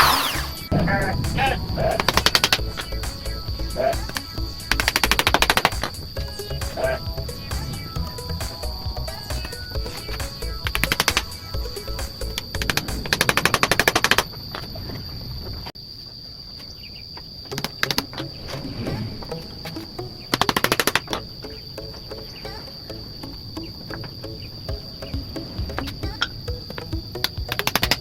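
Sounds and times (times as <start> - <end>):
rapid clicking: 0.0 - 14.2, 19.7 - 28.0
high insect trill: 0.0 - 28.0.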